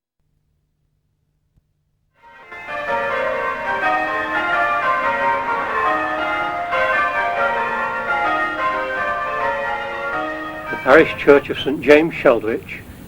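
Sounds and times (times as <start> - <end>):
church bells ringing: 2.2 - 12.8.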